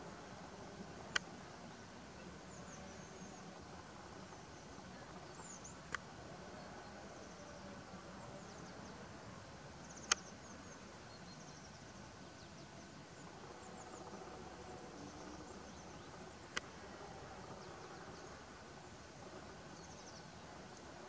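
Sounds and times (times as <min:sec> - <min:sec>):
meadow ambience: 0:00.0 - 0:21.0.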